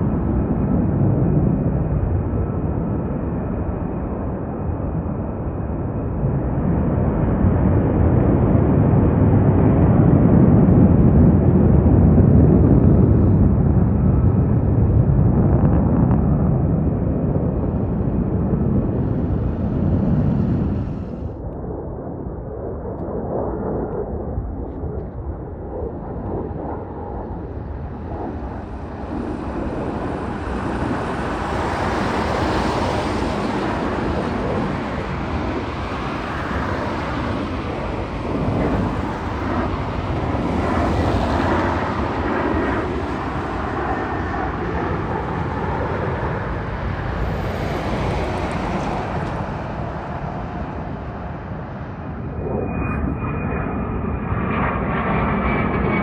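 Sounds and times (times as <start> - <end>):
fighter jet engines roaring: 0.0 - 56.0.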